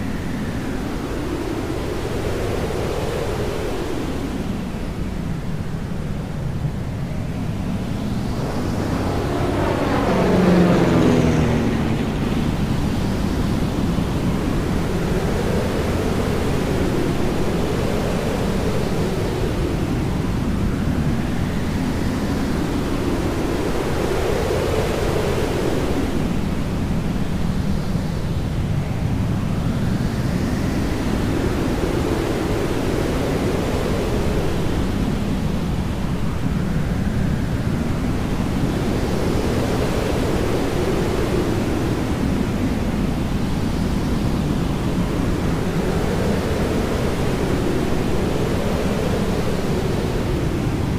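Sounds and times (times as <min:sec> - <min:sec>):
jet aircraft roar: 0:00.0 - 0:50.9.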